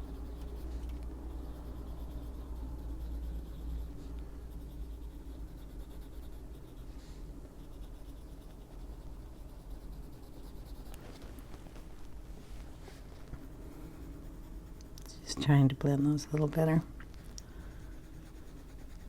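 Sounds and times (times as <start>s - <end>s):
pencil scratching on paper: 0.0s - 11.4s, 12.9s - 16.6s, 17.5s - 19.0s.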